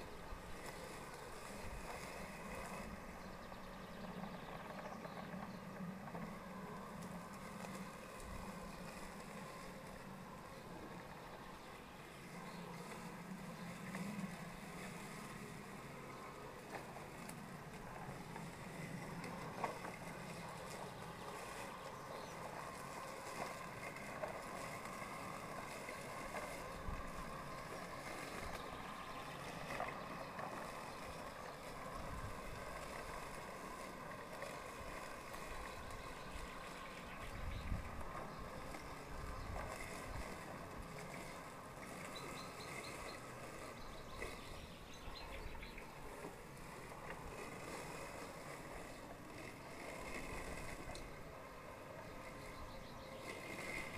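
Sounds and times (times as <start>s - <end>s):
robotic lawn mower motors whirring: 0.0s - 53.9s.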